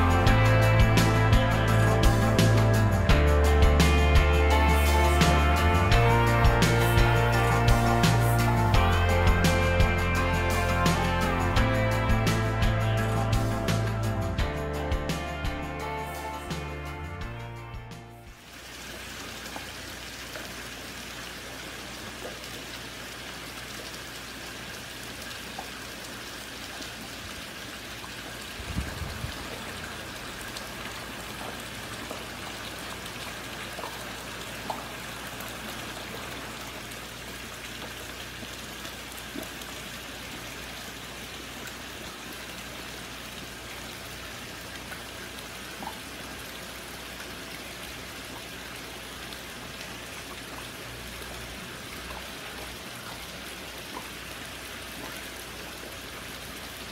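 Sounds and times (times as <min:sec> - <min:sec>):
water splashing and trickling: 0:00.0 - 0:56.9.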